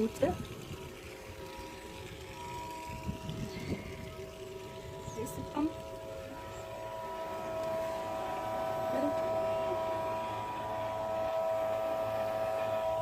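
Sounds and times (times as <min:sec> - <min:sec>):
electric pump whining: 0:00.0 - 0:13.0.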